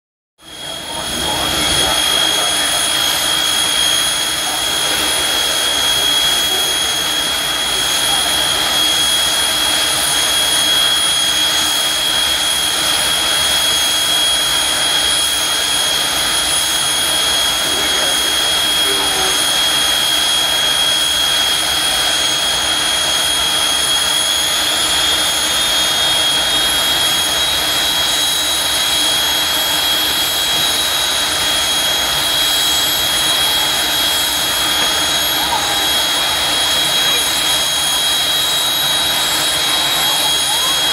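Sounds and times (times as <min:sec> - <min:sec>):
jet turbine engines idling: 0:00.4 - 0:40.9.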